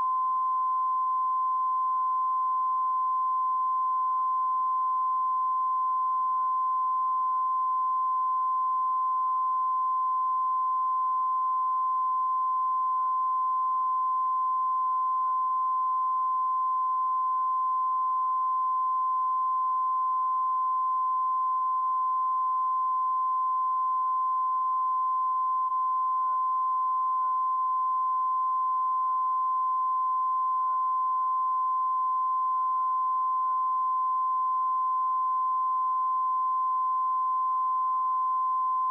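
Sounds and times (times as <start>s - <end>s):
steady sine test tone: 0.0s - 38.9s.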